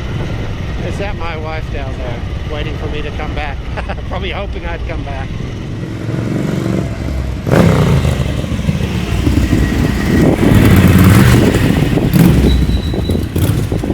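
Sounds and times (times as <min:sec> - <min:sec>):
motorcycle engine running: 0:02.2 - 0:13.9.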